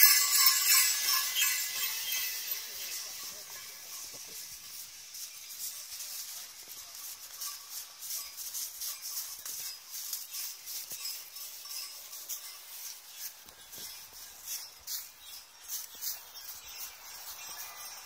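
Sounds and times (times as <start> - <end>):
sleigh bells jingling: 0.0 - 18.0.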